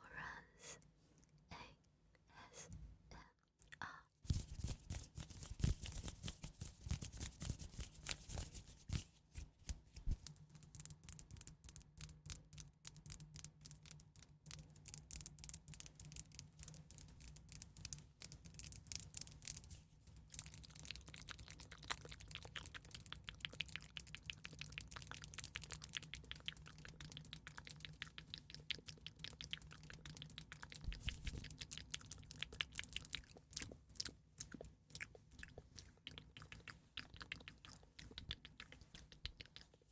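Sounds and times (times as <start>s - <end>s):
rapid crisp clicks and crackles: 3.6s - 39.9s.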